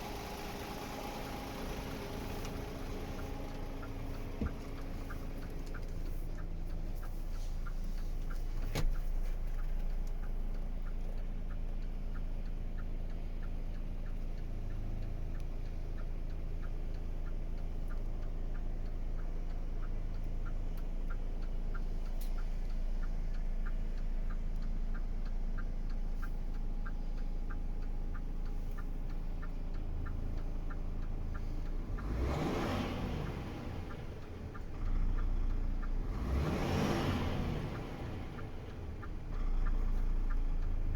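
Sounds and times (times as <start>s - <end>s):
diesel truck engine idling: 0.0s - 40.9s
light engine ticking: 0.0s - 40.9s.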